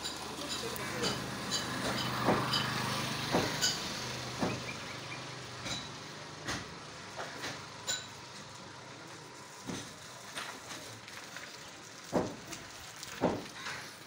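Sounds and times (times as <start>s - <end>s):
engine hum: 0.0s - 14.0s
traffic noise: 0.0s - 14.0s.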